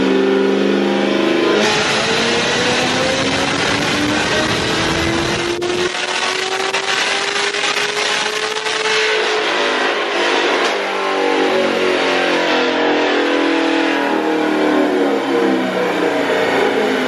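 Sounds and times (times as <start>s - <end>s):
car engine revving at full throttle: 0.0s - 17.0s
engine winding down: 0.1s - 17.0s.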